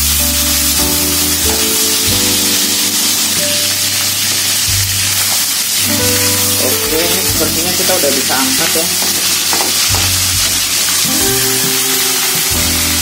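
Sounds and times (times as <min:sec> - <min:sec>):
background music with bass line: 0:00.0 - 0:13.0
chicken sizzling in hot oil: 0:00.0 - 0:13.0.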